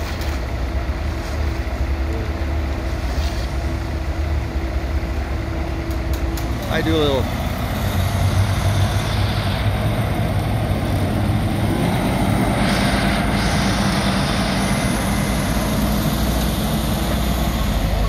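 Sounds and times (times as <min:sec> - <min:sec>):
diesel engines droning: 0:00.0 - 0:18.0.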